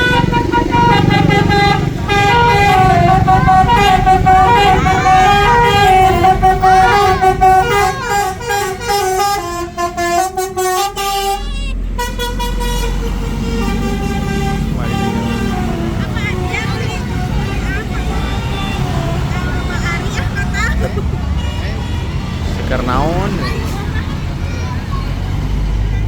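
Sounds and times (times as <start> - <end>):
bus musical horn: 0.0 - 26.0.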